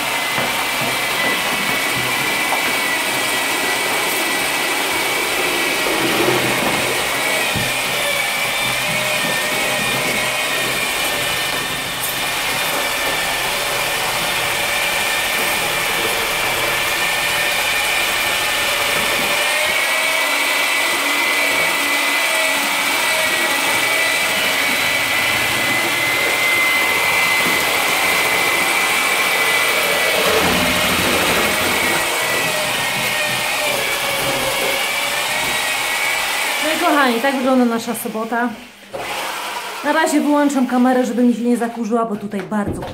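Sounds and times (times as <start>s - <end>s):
drill mixer motor whine: 0.0s - 37.6s, 38.7s - 40.0s.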